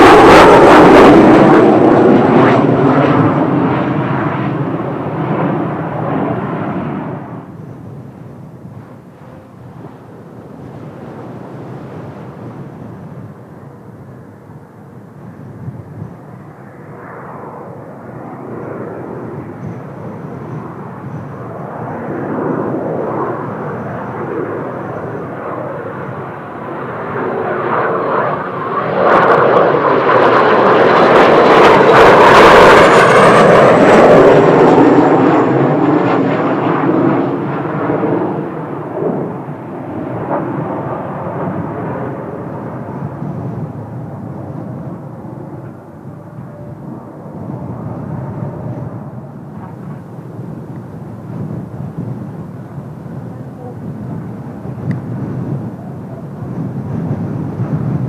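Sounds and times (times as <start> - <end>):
jet aircraft flying past: 0.0 - 58.0.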